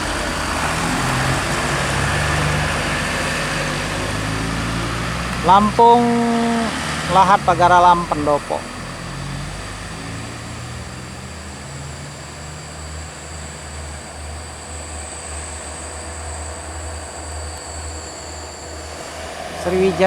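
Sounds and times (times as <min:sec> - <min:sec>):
diesel bus engine drone: 0:00.0 - 0:20.0
high steady whine: 0:01.6 - 0:20.0.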